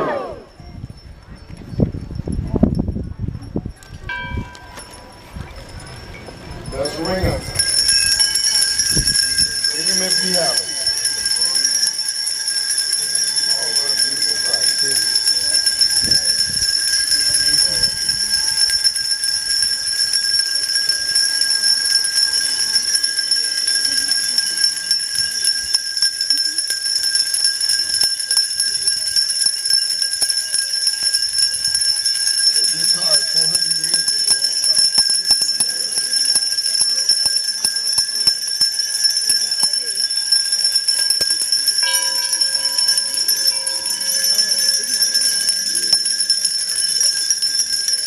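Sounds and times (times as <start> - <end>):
hand bells jangling: 0.0 - 48.0
people murmuring: 0.0 - 48.0.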